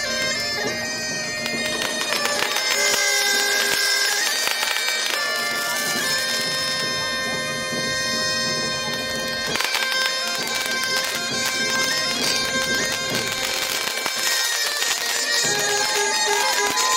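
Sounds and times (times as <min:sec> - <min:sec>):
bagpipes playing: 0:00.0 - 0:16.9.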